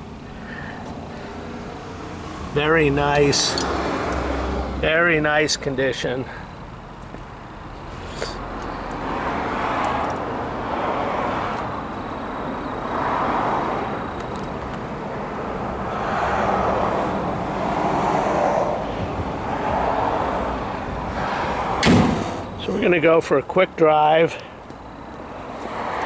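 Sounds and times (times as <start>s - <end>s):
cars passing by: 0.0s - 26.0s.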